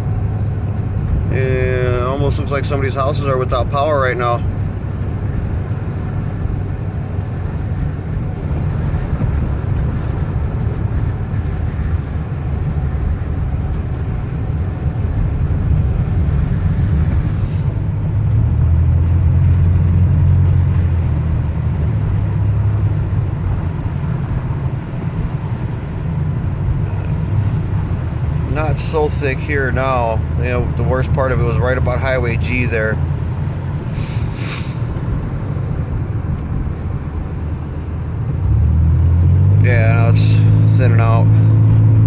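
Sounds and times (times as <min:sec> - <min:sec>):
engine and tyres rumble: 0:00.0 - 0:42.0.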